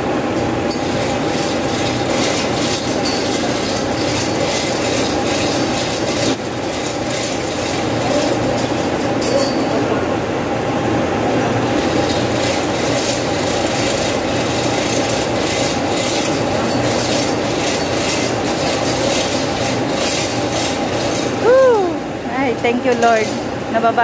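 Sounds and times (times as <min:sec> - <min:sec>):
steady mechanical hum: 0:00.0 - 0:24.0
chain hoist clicking and rattling: 0:00.4 - 0:10.0, 0:11.7 - 0:21.9, 0:22.5 - 0:23.5.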